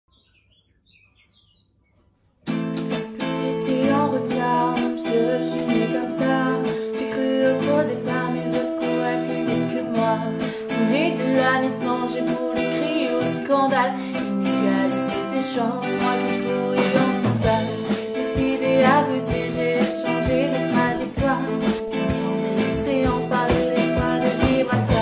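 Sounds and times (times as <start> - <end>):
pop-rock band instrumental: 2.5 - 25.0.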